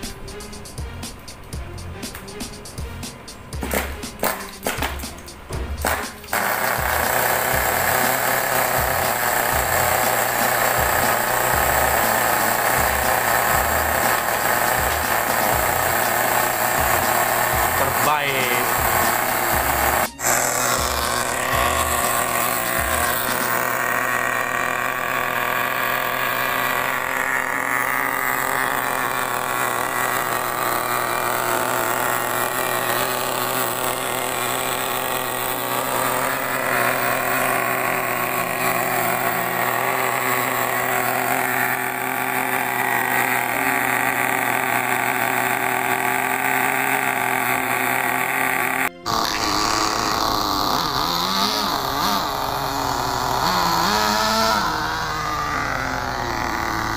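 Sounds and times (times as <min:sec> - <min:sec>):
small engine idling: 0:00.0 - 0:56.9.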